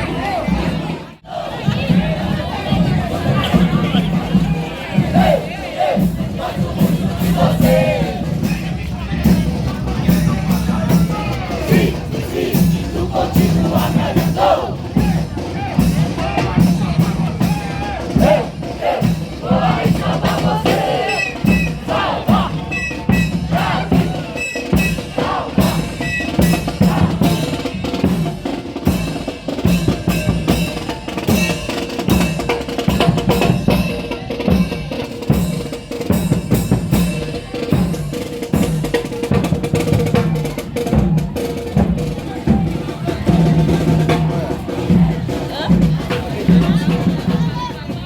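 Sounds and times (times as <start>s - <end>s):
bass drums: 0.0s - 48.0s
snare drums: 0.5s - 48.0s.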